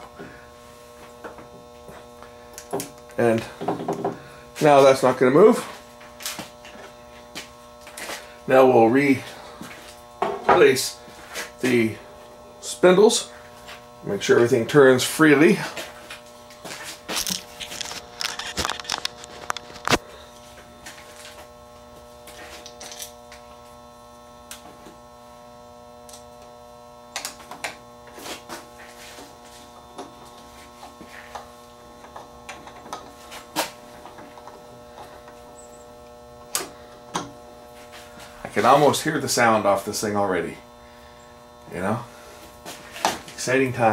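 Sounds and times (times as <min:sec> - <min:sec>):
electrical hum: 0:00.0 - 0:43.9.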